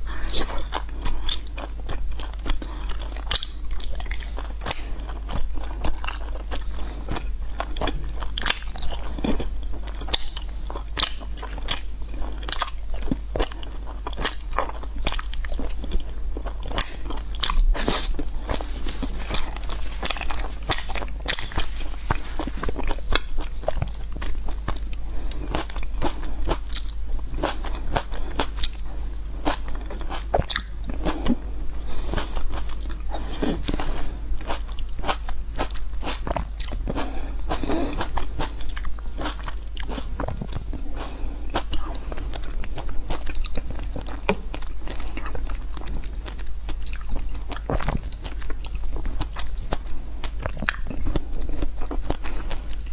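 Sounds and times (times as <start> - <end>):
crunchy eating and chewing: 0.0 - 52.9.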